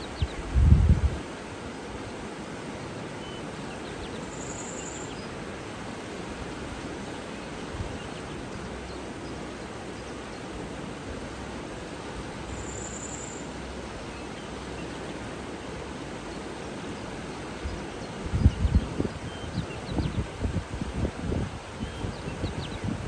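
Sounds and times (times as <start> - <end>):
flowing water: 0.0 - 23.0.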